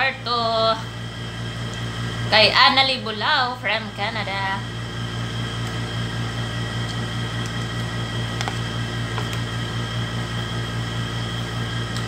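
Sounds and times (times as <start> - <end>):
appliance motor hum: 0.0 - 12.0.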